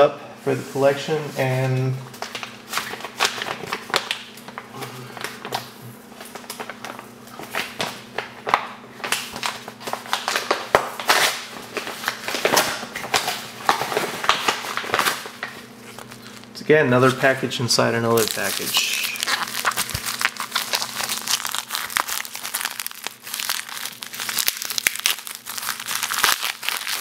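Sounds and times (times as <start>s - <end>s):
faint steady hum: 0.0s - 27.0s
packaging crinkling and rustling: 1.4s - 17.4s, 18.0s - 27.0s.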